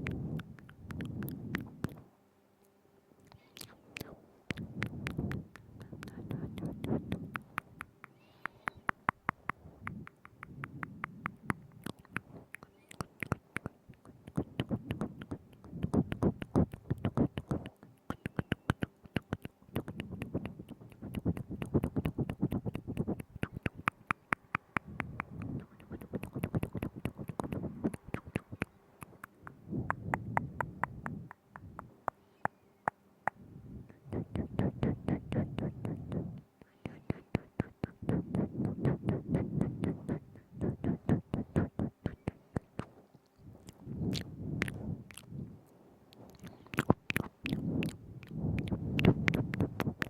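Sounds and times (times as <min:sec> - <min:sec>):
wet lip and tongue clicks: 0:00.0 - 0:02.0, 0:03.2 - 0:45.5, 0:46.1 - 0:50.0.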